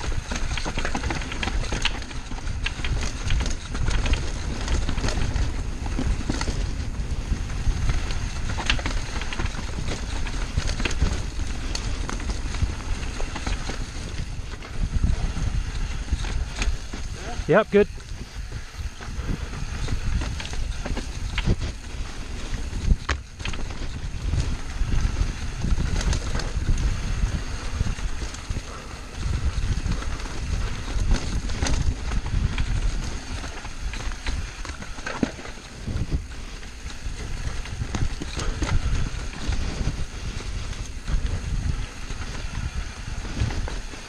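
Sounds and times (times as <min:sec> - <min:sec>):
bike knocks and rattles: 0:00.0 - 0:44.0
tyres rumbling over dirt and rocks: 0:00.0 - 0:44.0
wind buffeting microphone: 0:00.0 - 0:44.0.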